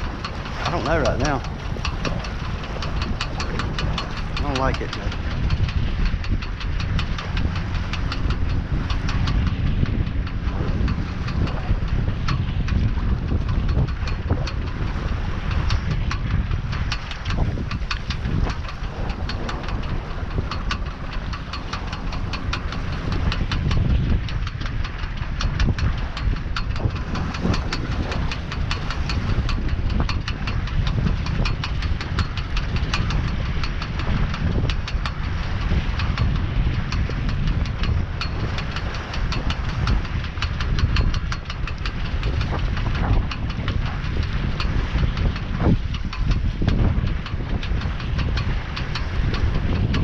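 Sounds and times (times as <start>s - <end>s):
fast ticking rattle: 0.0s - 50.0s
water rushing along hull: 0.0s - 50.0s
wind buffeting microphone: 0.0s - 50.0s.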